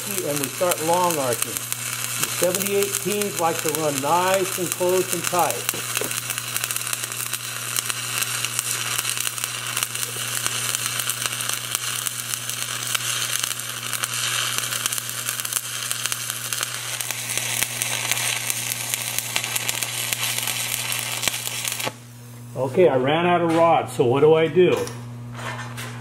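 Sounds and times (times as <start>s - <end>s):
welding arc crackling and sizzling: 0.0s - 23.9s.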